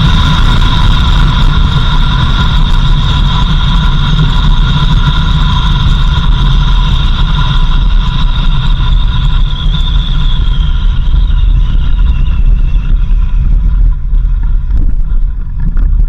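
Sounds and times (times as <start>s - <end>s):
high-pitched whine: 0.0s - 16.0s
vehicle engine and road rumble: 0.0s - 16.0s.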